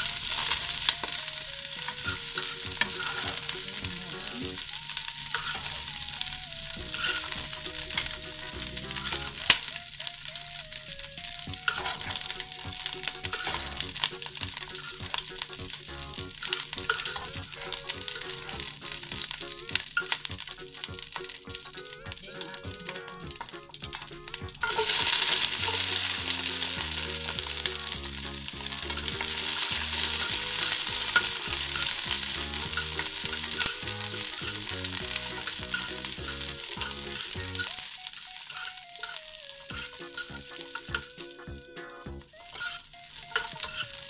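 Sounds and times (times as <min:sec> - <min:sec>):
broccoli sizzling in hot oil: 0:00.0 - 0:44.0
faint background music: 0:00.0 - 0:44.0
spatula turning food in pot: 0:00.0 - 0:44.0.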